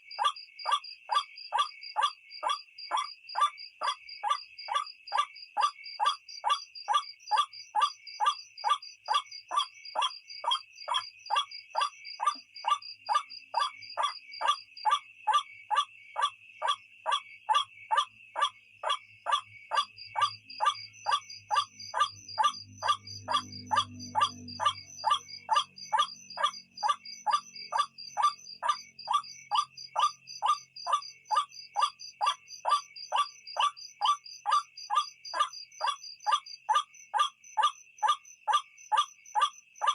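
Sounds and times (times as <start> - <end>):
crickets trilling: 0.1 - 39.9.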